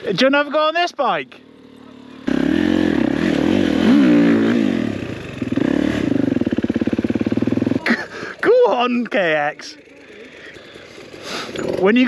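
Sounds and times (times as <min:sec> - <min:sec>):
dirt bike engine revving: 0:01.4 - 0:12.0.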